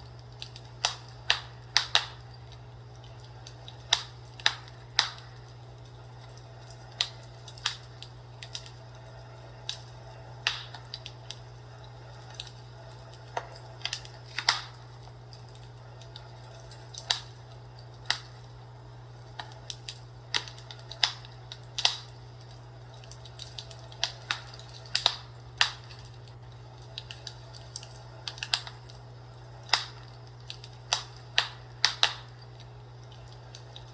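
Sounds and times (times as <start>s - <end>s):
steady low hum: 0.0s - 33.9s
wood fire crackling and popping: 0.0s - 33.9s.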